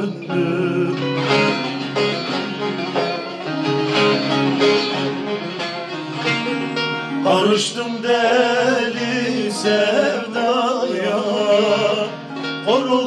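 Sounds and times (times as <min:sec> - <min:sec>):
plucked-string melody: 0:00.0 - 0:13.0
steady musical accompaniment: 0:00.0 - 0:13.0.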